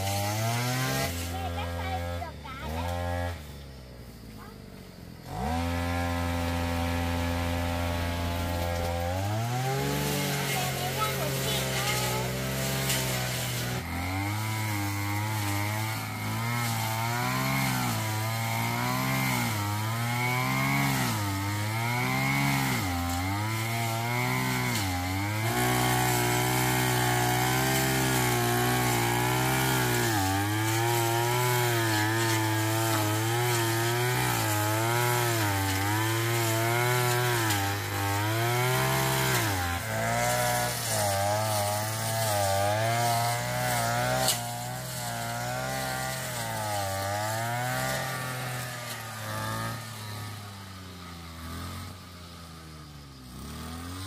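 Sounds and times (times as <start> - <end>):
brush cutter engine running: 0.0 - 54.0.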